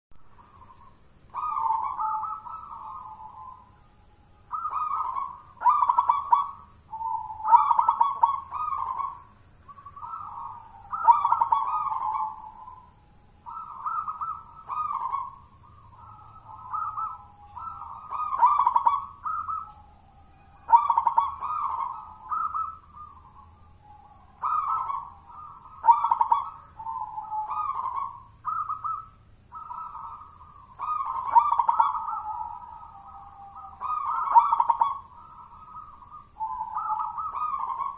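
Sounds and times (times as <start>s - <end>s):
dove cooing: 0.2s - 37.9s.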